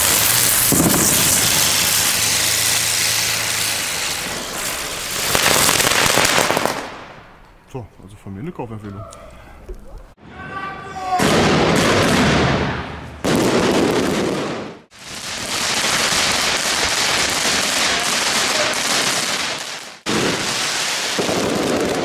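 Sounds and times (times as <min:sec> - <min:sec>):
fireworks crackling and banging: 0:00.0 - 0:07.6, 0:11.2 - 0:22.0.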